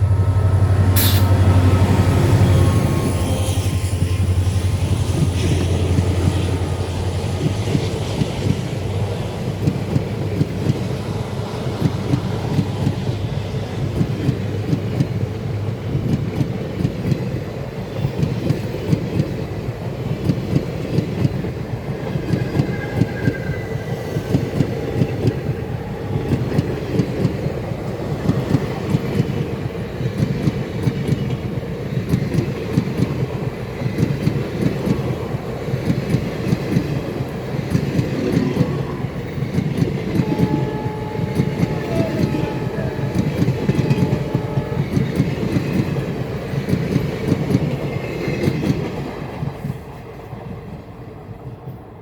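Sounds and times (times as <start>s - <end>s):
train wheels clattering on rails: 0.0s - 51.9s.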